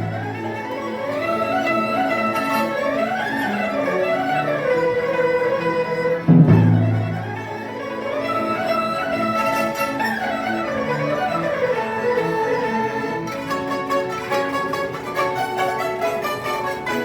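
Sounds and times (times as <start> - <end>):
bowed strings melody: 0.0 - 17.0
traditional orchestra playing: 0.0 - 17.0.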